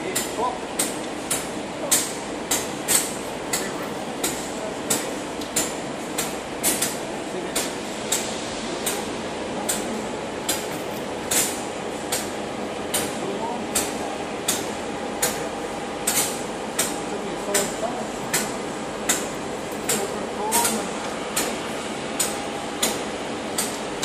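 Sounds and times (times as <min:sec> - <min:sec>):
railway machinery hum: 0:00.0 - 0:24.0.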